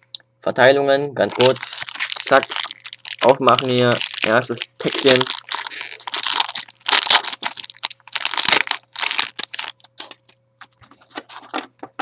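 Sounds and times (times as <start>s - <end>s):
wrapper crinkling: 1.3s - 11.5s.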